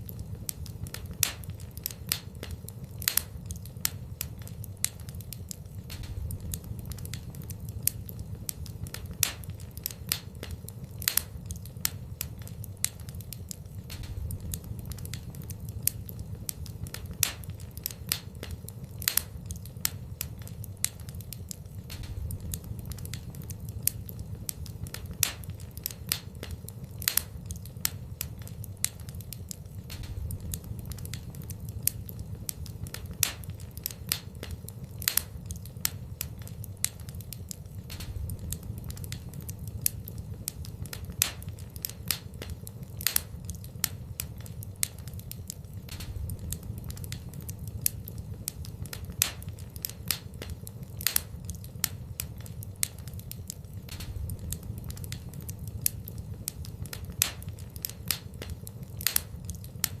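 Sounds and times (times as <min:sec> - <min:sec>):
low fire rumble: 0:00.0 - 1:00.0
wood fire crackling and popping: 0:00.0 - 1:00.0.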